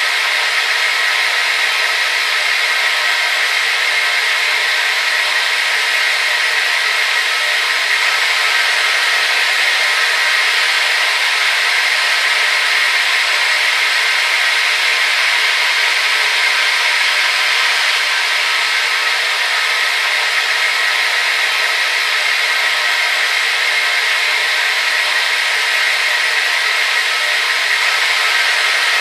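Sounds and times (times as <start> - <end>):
hair dryer running: 0.0 - 29.0.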